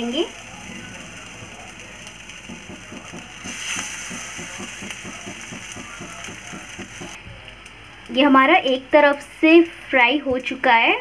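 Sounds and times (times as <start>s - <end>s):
oil sizzling in a pan: 0.0s - 10.7s.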